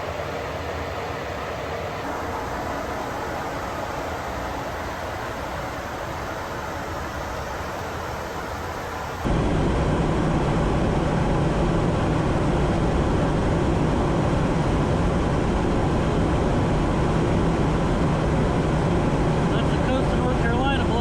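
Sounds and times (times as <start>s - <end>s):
jet engine and rushing air: 0.0s - 21.0s.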